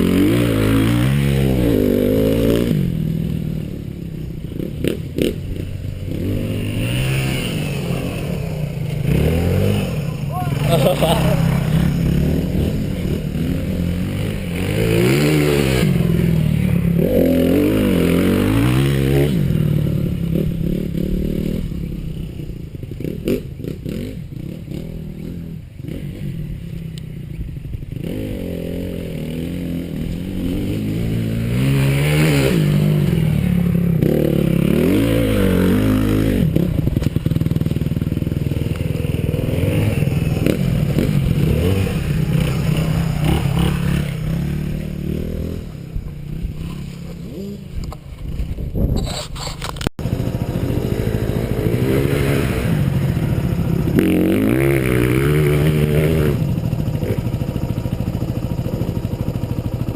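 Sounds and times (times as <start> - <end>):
motocross engine revving: 0.0 - 3.8, 4.4 - 26.6, 27.9 - 47.9, 48.9 - 59.9.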